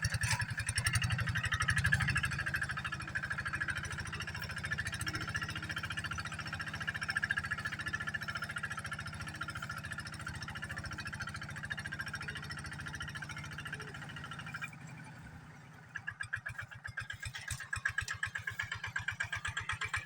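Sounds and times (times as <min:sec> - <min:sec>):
tractor engine chugging: 0:00.0 - 0:20.0.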